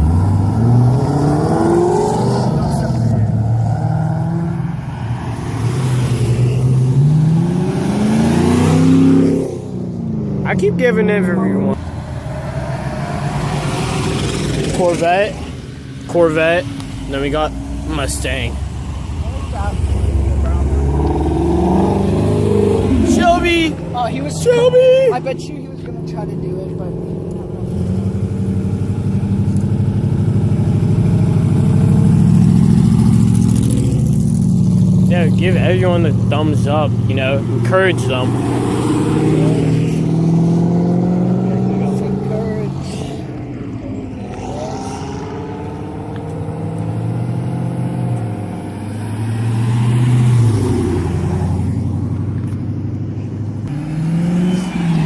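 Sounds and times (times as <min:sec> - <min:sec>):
car engine pulsing exhaust: 0:00.0 - 0:55.0.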